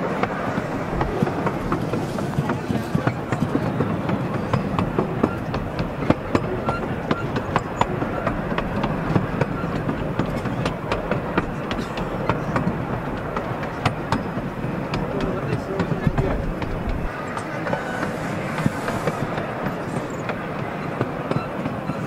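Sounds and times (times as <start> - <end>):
train wheels rumbling on track: 0.0 - 22.0
wheels clicking over rail joints: 0.0 - 22.0.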